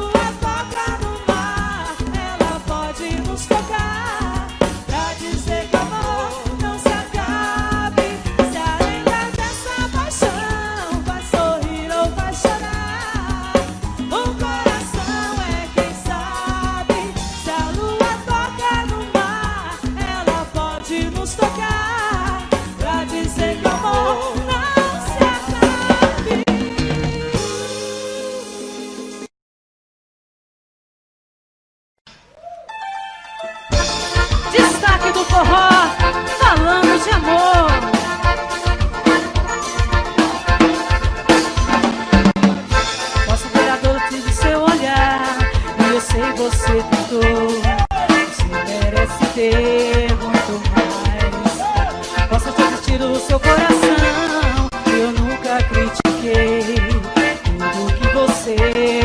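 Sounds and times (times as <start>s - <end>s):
bending melodic lead line: 0.0s - 27.8s, 32.7s - 59.0s
steady drum-kit beat: 0.0s - 27.9s, 33.7s - 59.0s
bass: 0.0s - 29.3s, 33.7s - 59.0s
live band playing: 0.0s - 29.3s, 32.6s - 59.0s.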